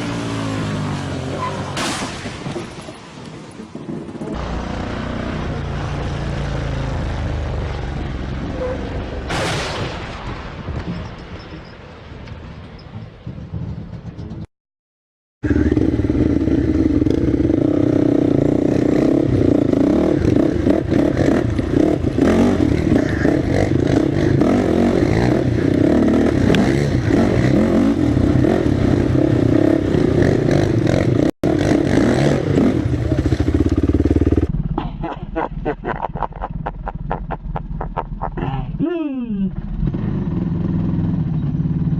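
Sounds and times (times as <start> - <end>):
off-road vehicle engine: 0.0 - 9.7, 15.4 - 41.9.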